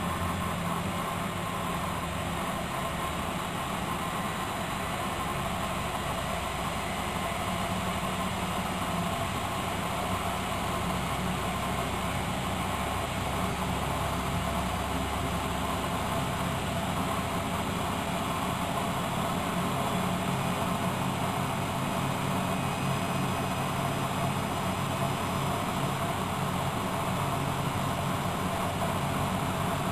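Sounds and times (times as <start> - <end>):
washing machine running: 3.2 - 29.9.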